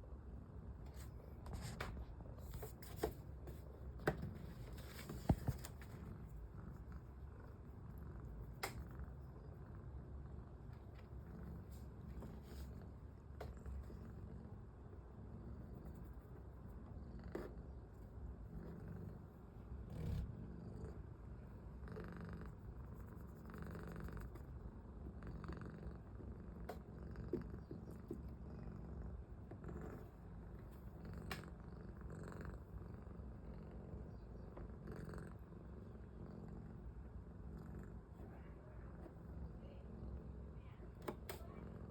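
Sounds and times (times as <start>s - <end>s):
cat purring: 4.3s - 41.9s.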